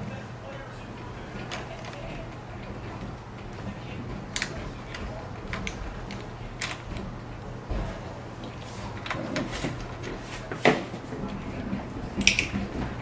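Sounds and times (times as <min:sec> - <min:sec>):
parts clicking and knocking: 0:01.4 - 0:13.0.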